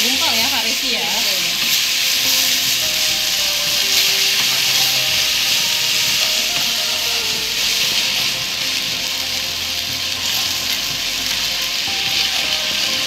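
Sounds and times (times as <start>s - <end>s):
steady sizzle: 0.0s - 13.0s
wooden spatula scraping a pan: 0.0s - 13.0s.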